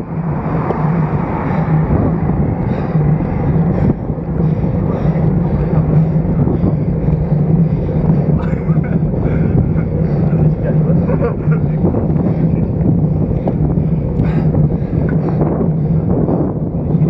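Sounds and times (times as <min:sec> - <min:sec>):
tyres humming on road: 0:00.0 - 0:17.0
wind rushing on microphone: 0:00.0 - 0:17.0.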